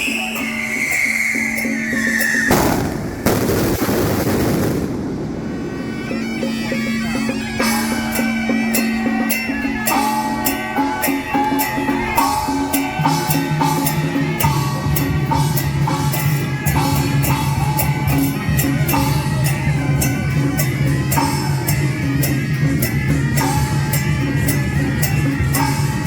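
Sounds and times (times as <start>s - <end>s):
reedy wind instrument melody: 0.0s - 3.5s, 4.4s - 26.0s
drum and cymbal strikes: 0.0s - 26.0s.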